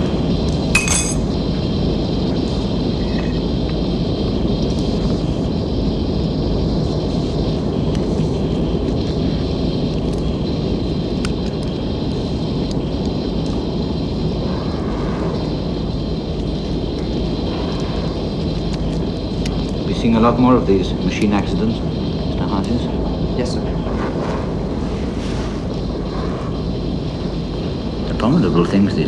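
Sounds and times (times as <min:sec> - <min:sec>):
faint high whine: 0:00.0 - 0:29.0
low rushing rumble: 0:00.0 - 0:29.0.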